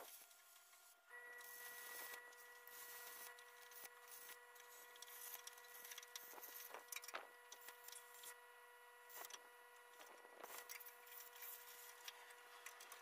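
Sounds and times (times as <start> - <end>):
faint steady whine: 0.0 - 13.0
welder crackling and sputtering: 1.5 - 8.4, 9.1 - 13.0.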